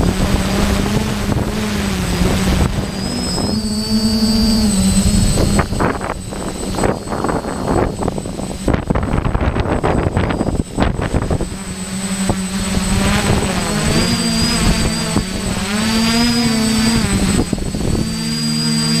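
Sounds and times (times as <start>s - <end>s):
drone propellers buzzing: 0.0s - 19.0s
thin high whine: 0.0s - 19.0s
wind rushing over microphone: 0.0s - 19.0s.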